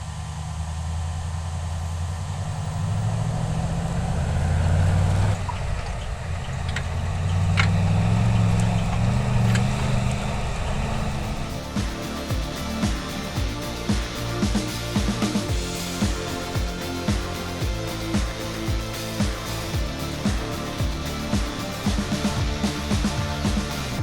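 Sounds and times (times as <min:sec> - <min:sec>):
pickup engine revving: 0:01.0 - 0:24.0.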